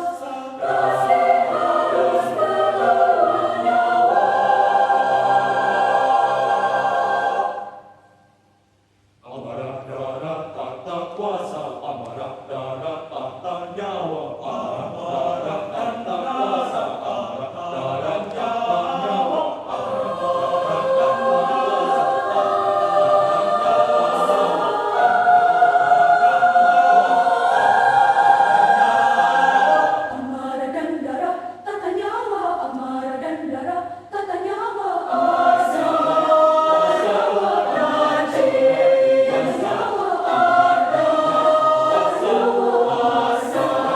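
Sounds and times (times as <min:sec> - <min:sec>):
choir singing held chords: 0:00.0 - 0:08.5, 0:09.2 - 0:43.9.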